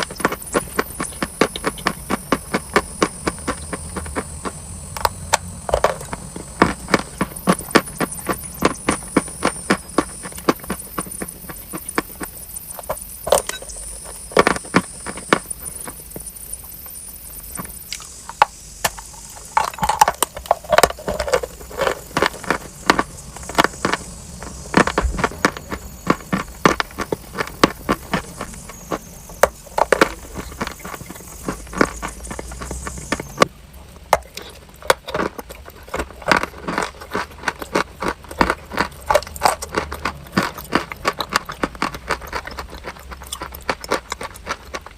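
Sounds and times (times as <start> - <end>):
chalk crunching while chewed: 0.0 - 33.5, 34.2 - 44.9.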